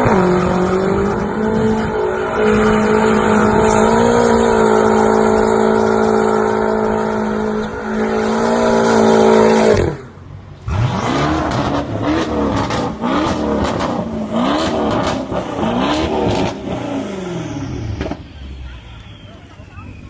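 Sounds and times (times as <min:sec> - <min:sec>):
exhaust crackles and pops: 0:00.0 - 0:10.1, 0:11.2 - 0:16.9, 0:17.6 - 0:20.0
car engine revving: 0:00.0 - 0:19.0.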